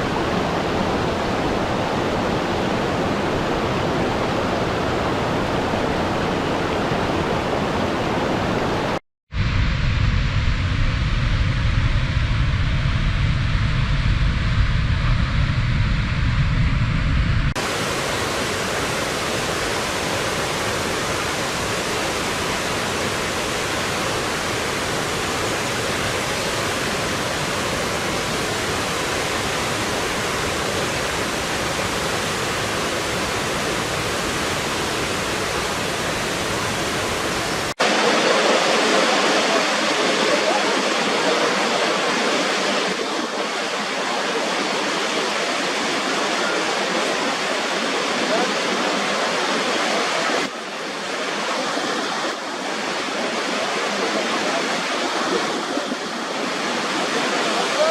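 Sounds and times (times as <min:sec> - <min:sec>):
waterfall rushing: 0:00.0 - 0:09.0, 0:17.5 - 0:57.9.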